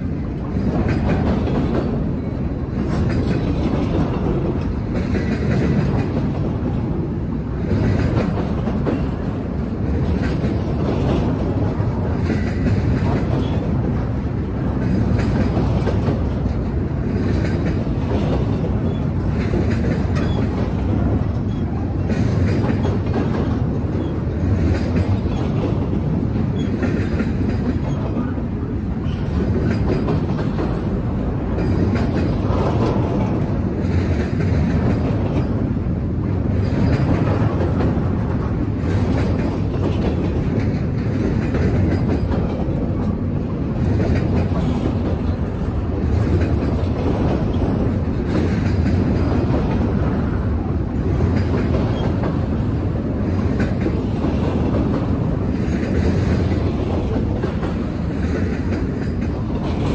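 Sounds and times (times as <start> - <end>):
freight train rolling past: 0.0 - 59.9
wheels clicking over rail joints: 0.0 - 59.9.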